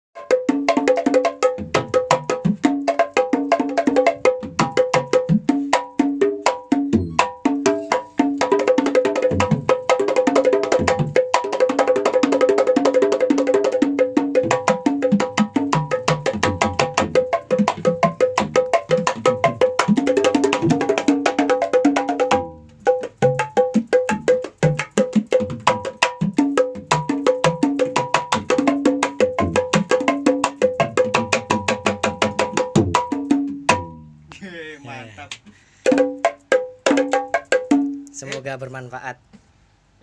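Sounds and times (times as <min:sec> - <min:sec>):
hand drums played fast: 0:00.2 - 0:38.5.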